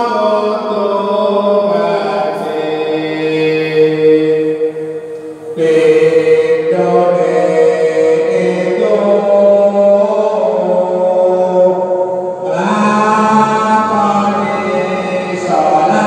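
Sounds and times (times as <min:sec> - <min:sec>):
man chanting devotional song: 0:00.0 - 0:16.0.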